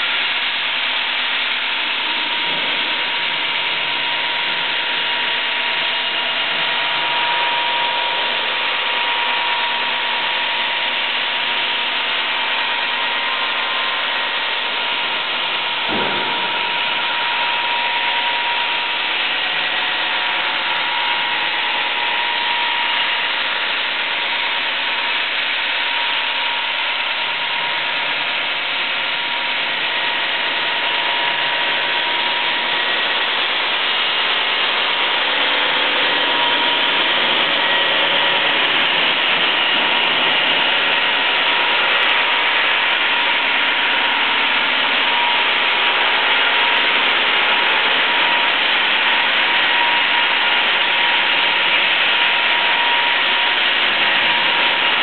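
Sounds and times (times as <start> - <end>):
constant machine whine: 0.0 - 55.0
stone saw machine noise: 0.0 - 55.0.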